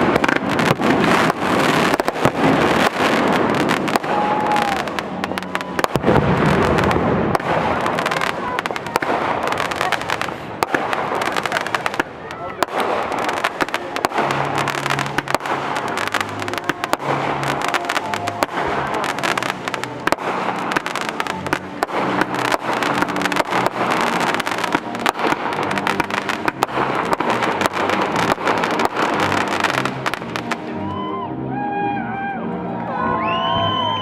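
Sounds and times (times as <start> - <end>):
fireworks bangs and crackles: 0.0 - 30.8
music playing: 0.0 - 34.0.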